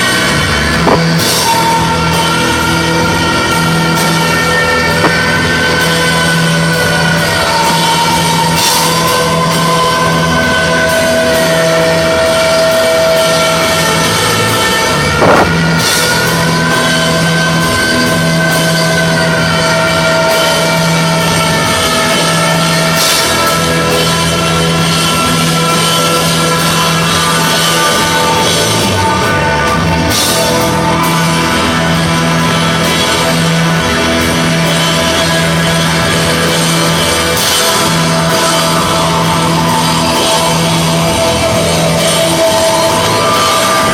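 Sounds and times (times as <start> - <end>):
live rock band playing: 0.0 - 43.9.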